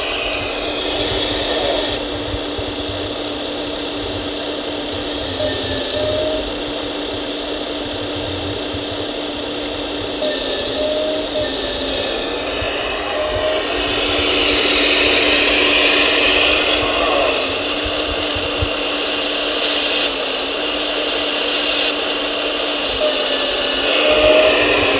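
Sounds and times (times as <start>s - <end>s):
hydraulic whine and hum: 0.0s - 24.9s.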